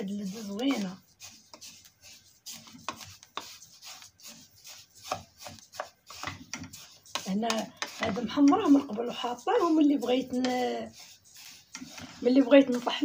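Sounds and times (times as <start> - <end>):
seeds scraping against metal pot: 0.0 - 13.0.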